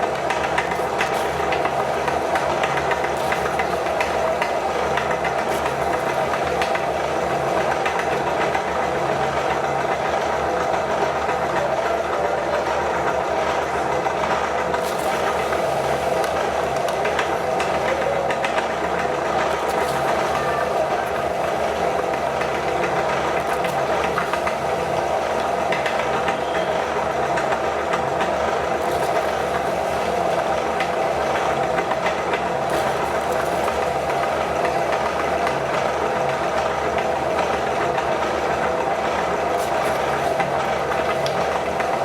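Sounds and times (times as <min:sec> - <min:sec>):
meat grinder motor humming: 0:00.0 - 0:11.5, 0:12.7 - 0:42.0.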